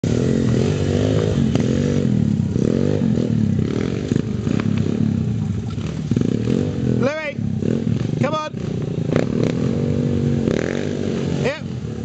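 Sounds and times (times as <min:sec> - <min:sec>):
pit bike engines revving: 0:00.0 - 0:12.0.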